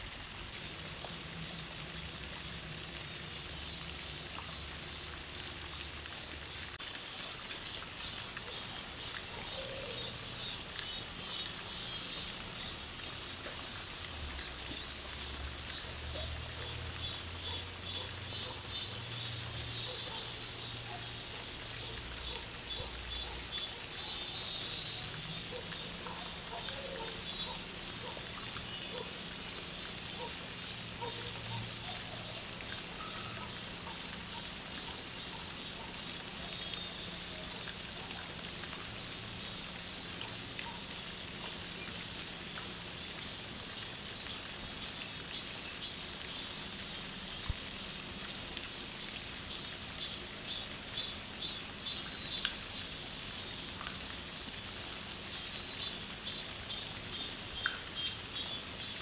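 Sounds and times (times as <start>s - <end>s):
insect chorus buzzing: 0.2s - 59.0s
rapid pulsed insect calls: 0.2s - 59.0s.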